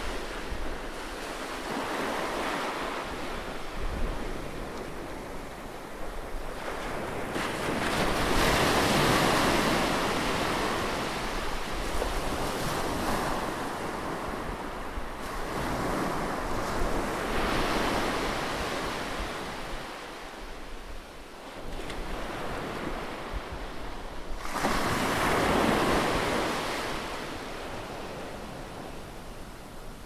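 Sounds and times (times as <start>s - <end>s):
sea waves breaking on shore: 0.0s - 30.0s.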